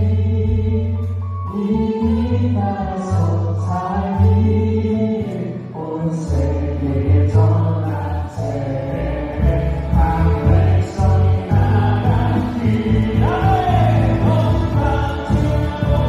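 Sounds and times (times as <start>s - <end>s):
electric bass low notes: 0.0s - 16.0s
gospel song with singing: 0.0s - 16.0s.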